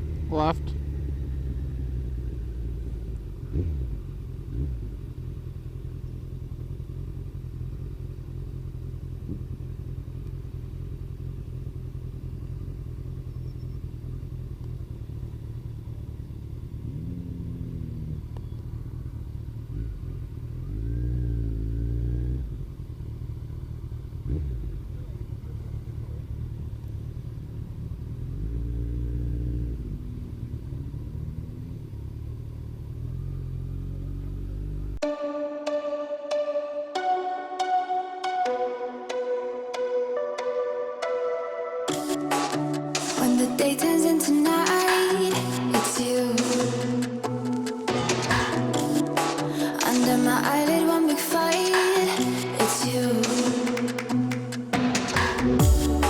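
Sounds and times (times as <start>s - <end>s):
engine revving: 0.0s - 35.1s, 41.9s - 56.0s
motorcycle engine rumbling: 0.0s - 35.8s, 41.9s - 56.0s.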